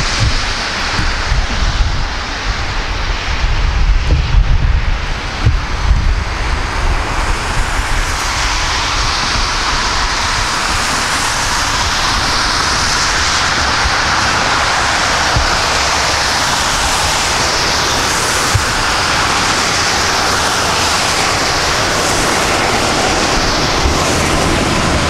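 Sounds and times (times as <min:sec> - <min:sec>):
jet engines roaring: 0:00.0 - 0:25.0
wind rumble on microphone: 0:00.0 - 0:25.0.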